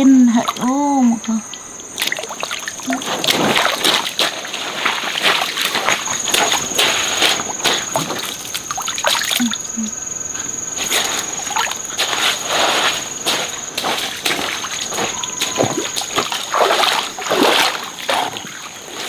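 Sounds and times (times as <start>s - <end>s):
water splashing and sloshing: 0.0s - 9.6s, 10.7s - 19.0s
high-pitched insect trill: 0.0s - 19.0s.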